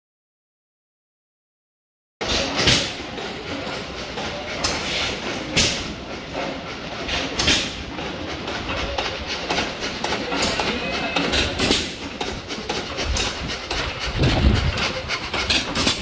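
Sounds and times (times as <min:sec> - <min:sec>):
steam engine rattling: 0:02.2 - 0:16.0.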